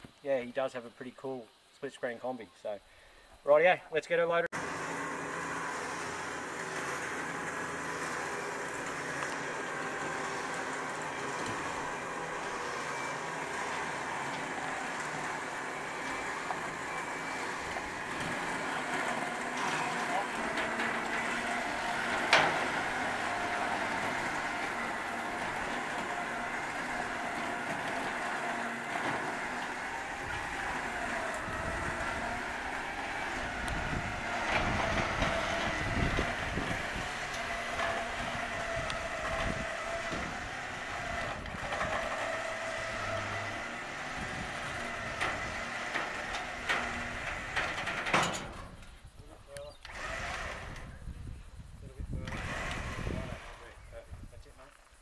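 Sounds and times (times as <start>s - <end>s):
winch motor whining: 4.6s - 49.0s, 49.6s - 51.1s, 52.1s - 54.0s.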